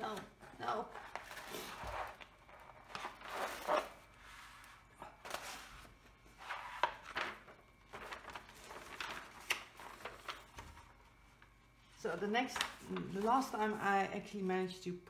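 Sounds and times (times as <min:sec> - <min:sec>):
paper rustling and crinkling: 0:00.0 - 0:13.8.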